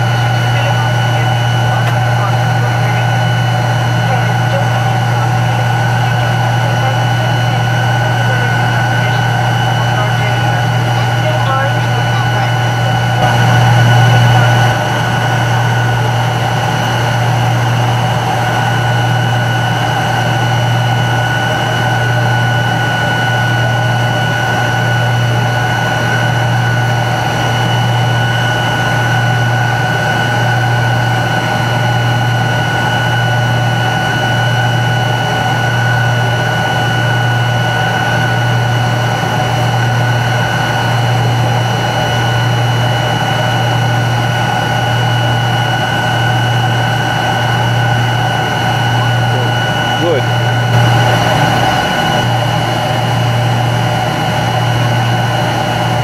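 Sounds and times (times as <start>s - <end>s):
high steady whine: 0.0s - 56.0s
jet engine low drone: 0.0s - 56.0s.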